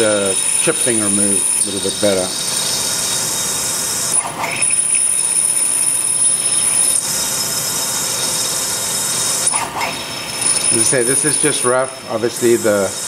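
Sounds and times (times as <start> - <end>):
lathe drilling with high whine: 0.0 - 13.0.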